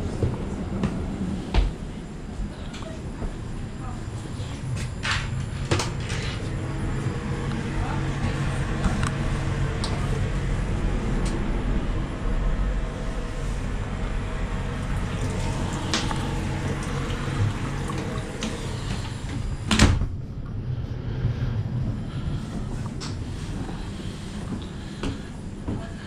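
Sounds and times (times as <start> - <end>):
train carriage rumble: 0.0 - 26.0.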